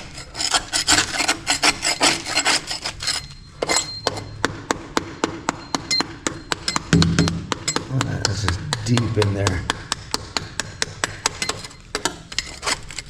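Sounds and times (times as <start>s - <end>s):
scraping wall compound and rust: 0.0s - 13.0s.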